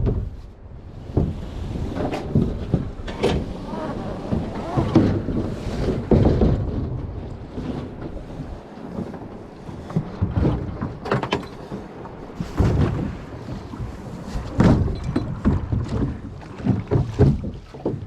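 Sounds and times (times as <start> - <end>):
boat knocking: 0.0 - 18.0
wind buffeting microphone: 0.0 - 18.0
water splashing: 1.7 - 18.0.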